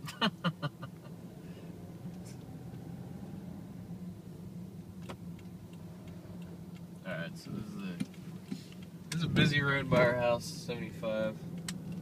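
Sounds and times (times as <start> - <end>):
car engine and tyres humming: 0.0 - 12.0.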